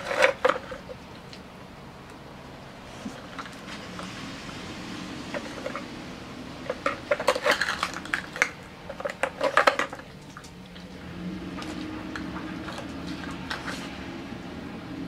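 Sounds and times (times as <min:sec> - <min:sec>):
plastic cups clattering: 0:00.0 - 0:01.5, 0:02.8 - 0:15.0.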